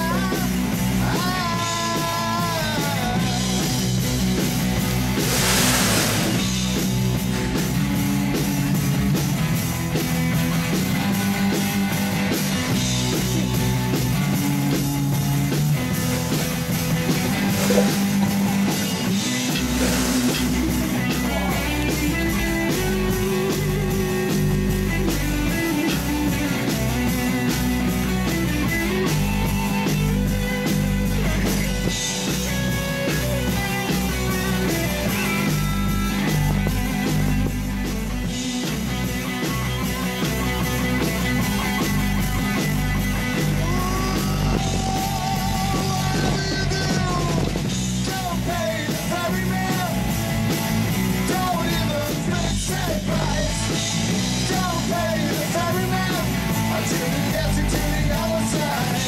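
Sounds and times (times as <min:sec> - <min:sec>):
deep bass line: 0:00.0 - 0:59.0
rock music: 0:00.0 - 0:59.0.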